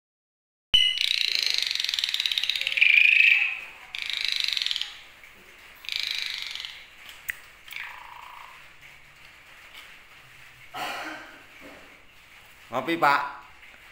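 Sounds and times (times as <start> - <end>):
starling rattling rasps: 0.8 - 13.7.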